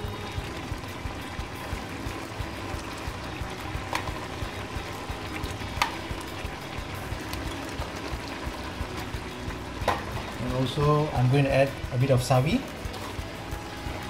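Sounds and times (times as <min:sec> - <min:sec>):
noodles bubbling and crackling in a pan: 0:00.0 - 0:14.0.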